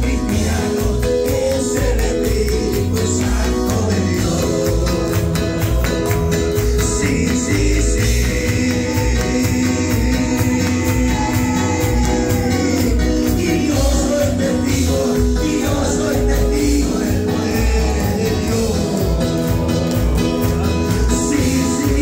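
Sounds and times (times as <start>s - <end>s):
church praise music with singing: 0.0s - 22.0s.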